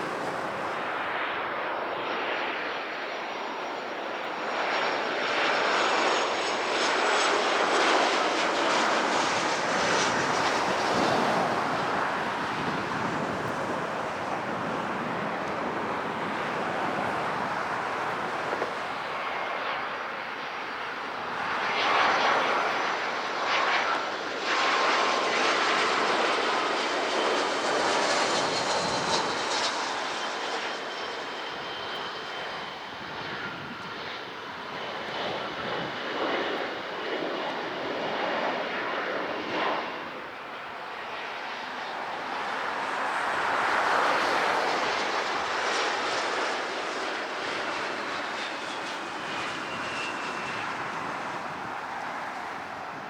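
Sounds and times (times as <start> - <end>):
jet engines rushing: 0.0 - 53.0.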